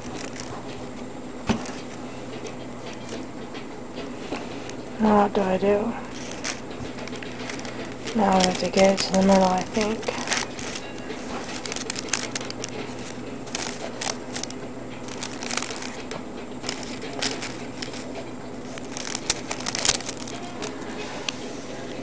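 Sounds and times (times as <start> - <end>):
rolling paper crinkling: 0.0 - 22.0.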